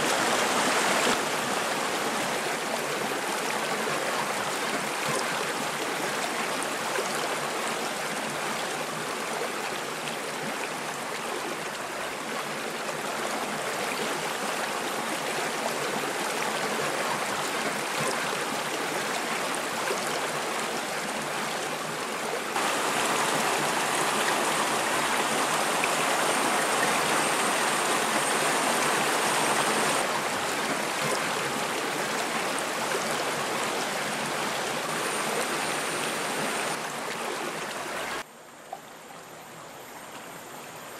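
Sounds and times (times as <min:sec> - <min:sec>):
river water flowing over rocks: 0:00.0 - 0:38.6.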